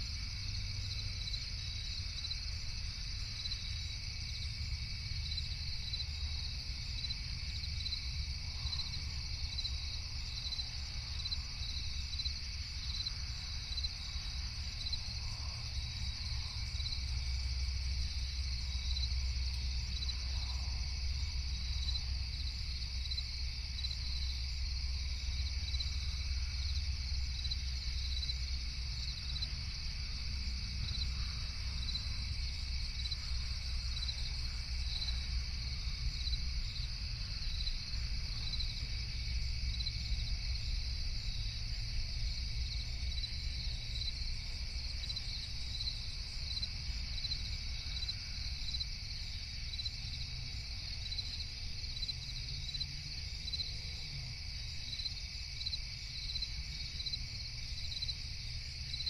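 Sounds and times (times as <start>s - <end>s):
low steady rumble: 0.0s - 48.6s
crickets chirping: 0.0s - 59.0s.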